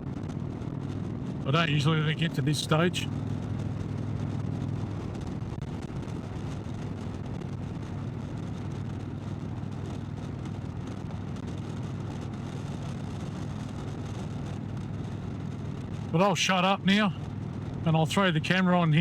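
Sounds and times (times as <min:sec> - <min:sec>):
motorcycle engine cruising: 0:00.0 - 0:16.2, 0:17.2 - 0:17.9
wind and road noise: 0:00.0 - 0:19.0.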